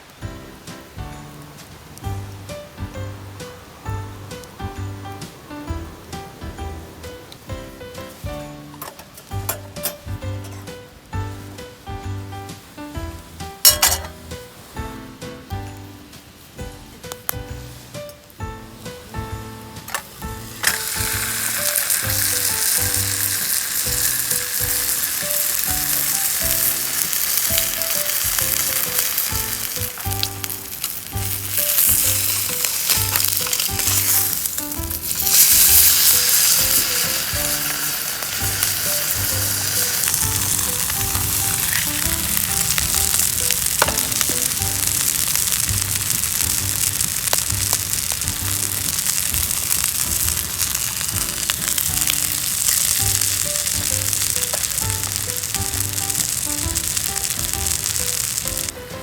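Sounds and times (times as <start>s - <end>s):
background music: 0.0s - 59.0s
food sizzling in a pan: 0.0s - 59.0s.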